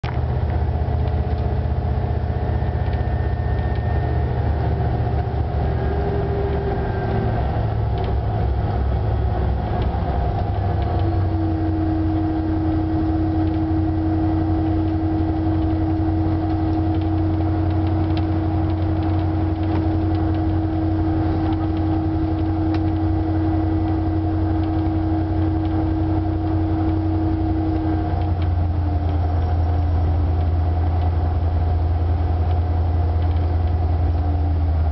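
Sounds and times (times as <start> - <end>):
locomotive engine drone: 0.0 - 34.9
steady whine: 0.0 - 34.9.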